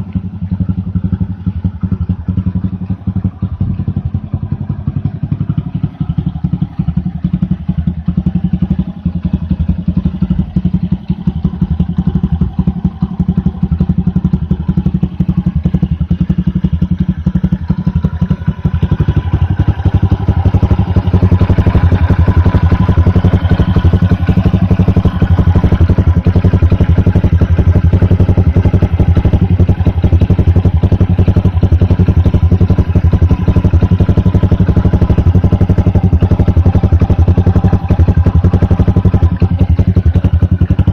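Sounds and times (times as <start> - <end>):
motorcycle engine exhaust beat: 0.0 - 40.9.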